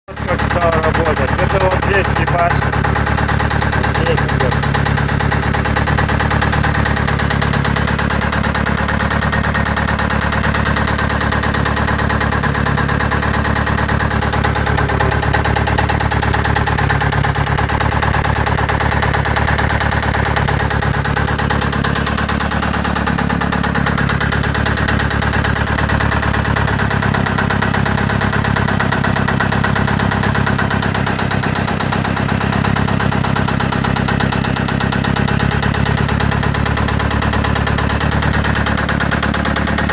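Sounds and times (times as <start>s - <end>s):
car engine idling with knock: 0.1s - 39.9s.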